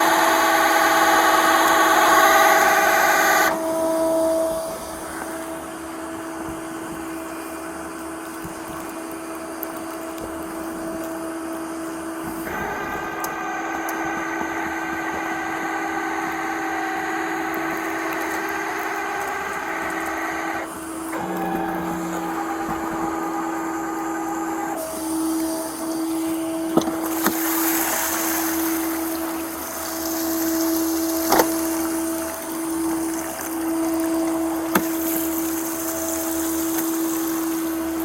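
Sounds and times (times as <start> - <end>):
high machine whine: 0.0 - 38.0
tow truck machinery hum: 0.0 - 38.0.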